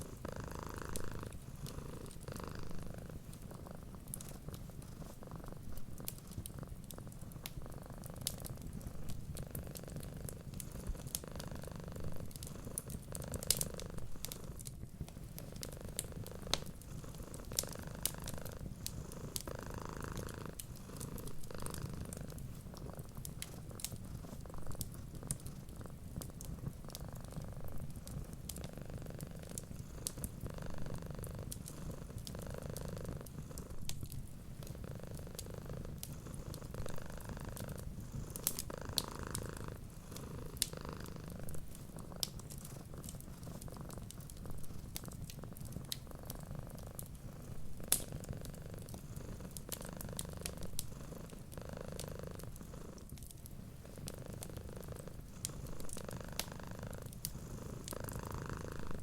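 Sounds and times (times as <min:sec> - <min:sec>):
cat purring: 0:00.0 - 0:59.0
wood fire crackling: 0:00.0 - 0:59.0.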